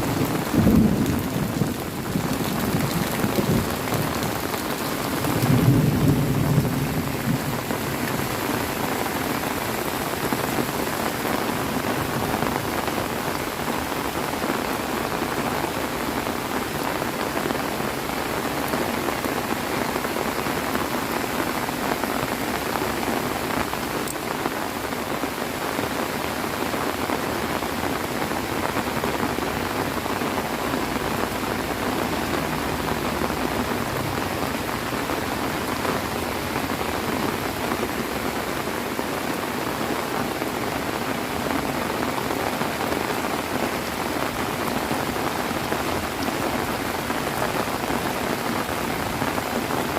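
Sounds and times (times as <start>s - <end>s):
heavy rain pattering: 0.0s - 49.9s.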